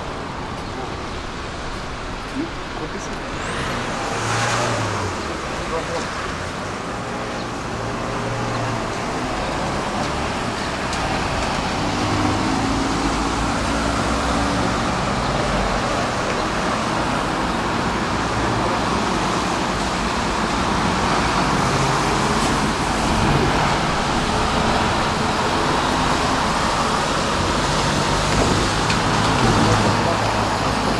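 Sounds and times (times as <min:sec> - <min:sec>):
cars passing on wet street: 0:00.0 - 0:30.9.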